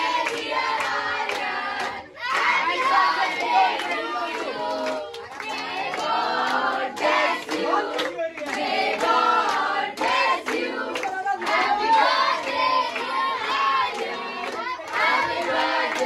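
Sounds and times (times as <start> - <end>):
hands clapping in time: 0.0 - 2.6, 3.4 - 16.0
children singing together: 0.0 - 8.0, 8.7 - 16.0.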